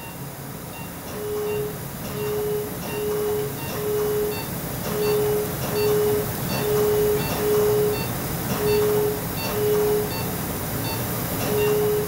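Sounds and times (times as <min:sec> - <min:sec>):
laser beeps: 0:01.5 - 0:12.0.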